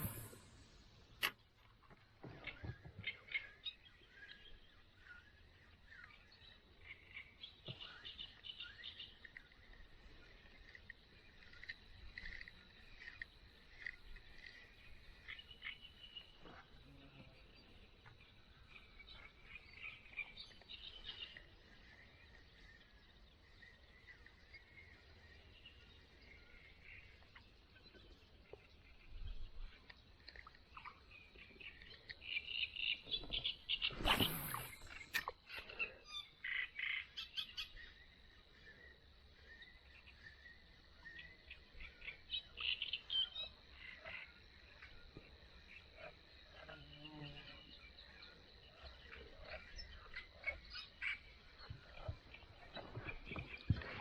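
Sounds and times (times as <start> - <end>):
birds chirping: 0.0 - 0.8, 2.2 - 45.9.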